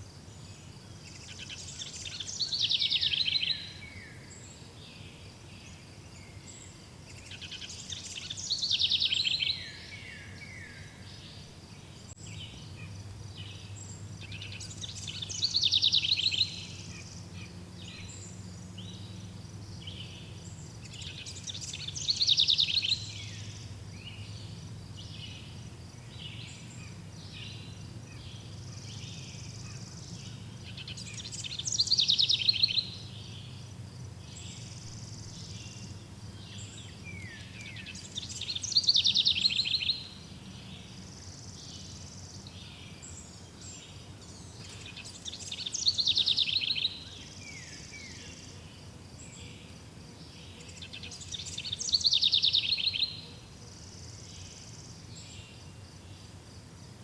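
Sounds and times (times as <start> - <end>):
soft bird chirping: 0.0 - 56.3
bird singing loud song phrase: 0.0 - 57.0.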